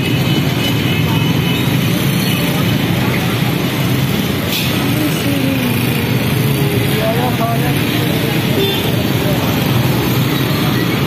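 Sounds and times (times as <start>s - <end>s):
motorcycle engines passing: 0.0s - 11.0s
people's voices: 0.0s - 11.0s.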